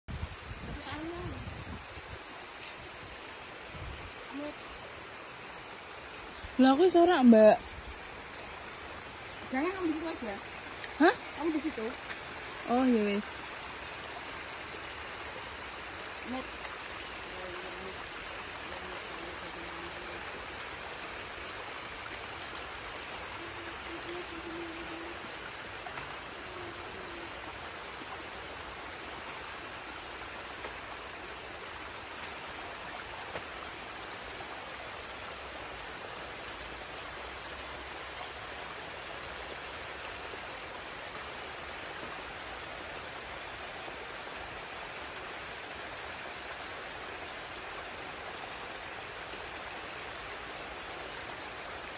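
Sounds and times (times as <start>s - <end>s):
stream trickling over rocks: 0.1s - 51.9s.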